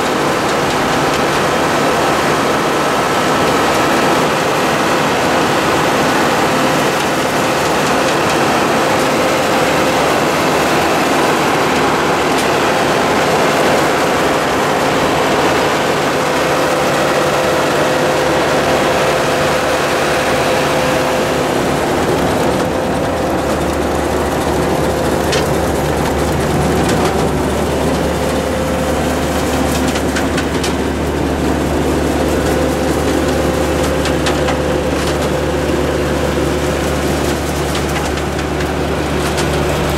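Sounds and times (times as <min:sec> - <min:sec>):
constant hum: 0:00.0 - 0:39.9
deep engine drone: 0:00.0 - 0:39.9
harvester machinery clatter: 0:00.0 - 0:39.9.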